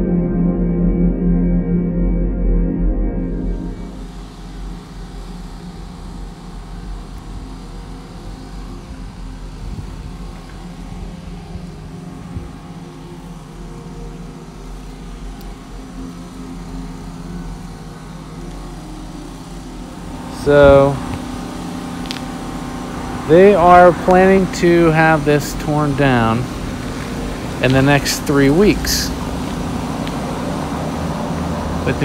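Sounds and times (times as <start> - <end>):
engine humming steadily: 0.0 - 32.0.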